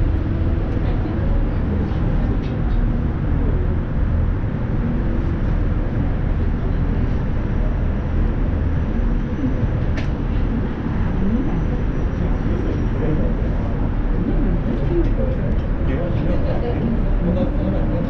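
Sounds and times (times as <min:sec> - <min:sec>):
cable car cabin rumble: 0:00.0 - 0:18.0
faint voices: 0:00.0 - 0:18.0.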